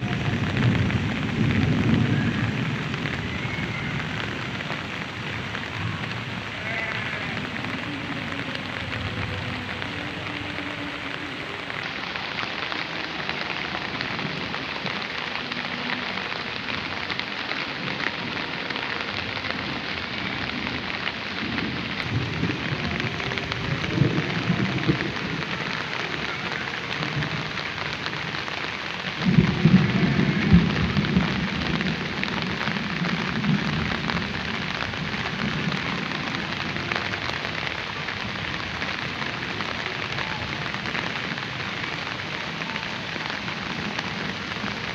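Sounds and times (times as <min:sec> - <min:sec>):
rain falling steadily: 0:00.0 - 0:44.9.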